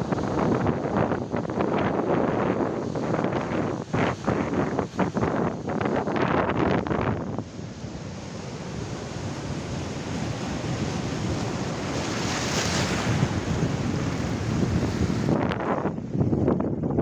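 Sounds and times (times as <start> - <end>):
ocean surf washing ashore: 0.0 - 16.5
wind buffeting microphone: 0.0 - 17.0.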